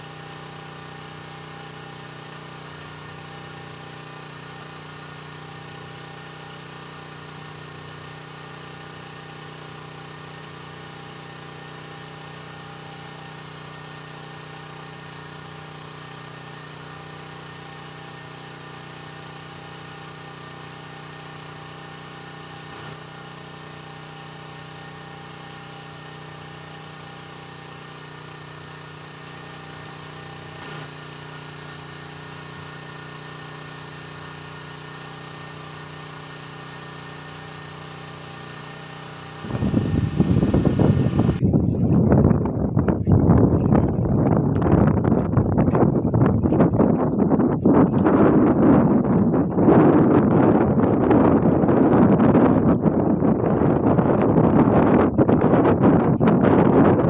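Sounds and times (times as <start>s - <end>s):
boat engine humming: 0.0s - 49.7s.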